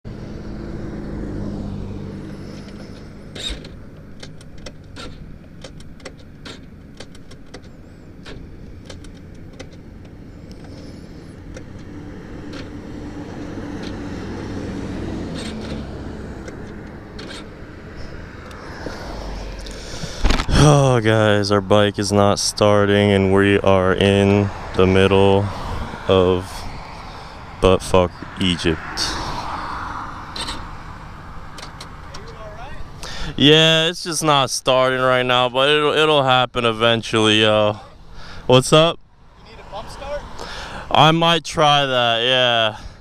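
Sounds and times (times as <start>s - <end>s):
car engines humming past: 0.0s - 43.0s.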